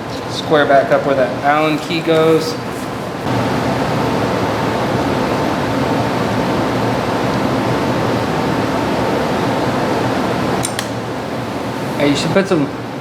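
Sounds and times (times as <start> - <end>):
faint steady whine: 0.0 - 13.0
motor and fan running: 0.0 - 13.0.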